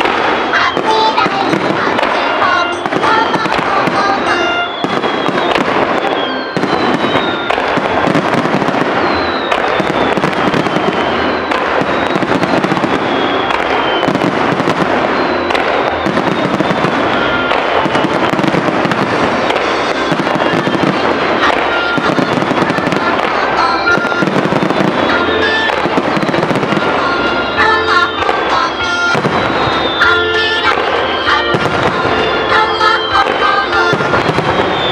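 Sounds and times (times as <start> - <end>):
falling firework whistles: 0.0 - 34.9
firework crackling: 0.0 - 34.9
firework shell bursts: 0.0 - 34.9.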